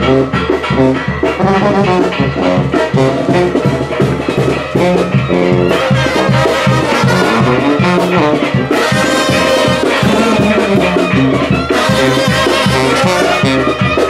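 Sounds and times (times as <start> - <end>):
pulsing bass line: 0.0 - 14.0
trumpets and trombones: 0.0 - 14.0.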